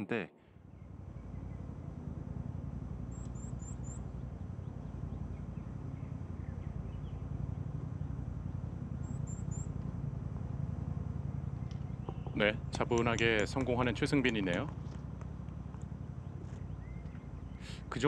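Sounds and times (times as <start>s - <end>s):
steady low rumble: 0.0s - 18.0s
bird chirping: 0.4s - 18.0s.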